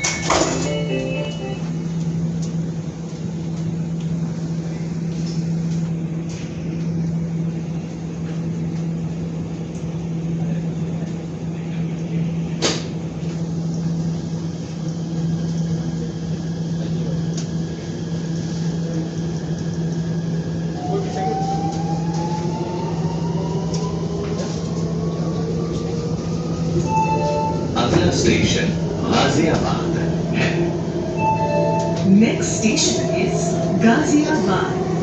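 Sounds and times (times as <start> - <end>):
train carriage low hum: 0.0 - 35.0
train rumble: 0.0 - 35.0.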